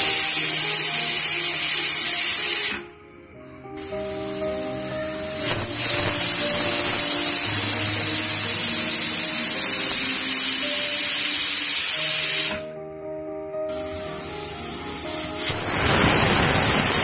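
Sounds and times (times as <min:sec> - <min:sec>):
pressure cooker steam hissing: 0:00.0 - 0:02.9, 0:03.8 - 0:12.7, 0:13.7 - 0:17.0
background music: 0:00.0 - 0:17.0.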